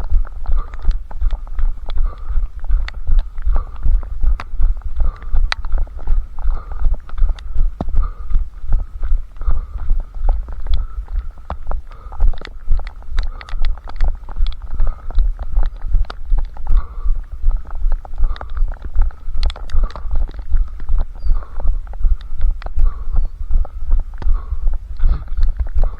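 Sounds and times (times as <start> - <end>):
light taps and clicks: 0.0 - 25.9.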